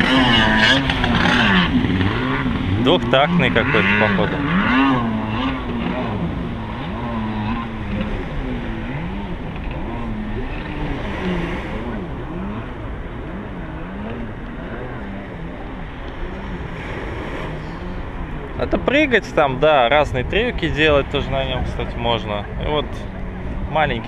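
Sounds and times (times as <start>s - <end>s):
jet ski engine revving: 0.0s - 24.0s.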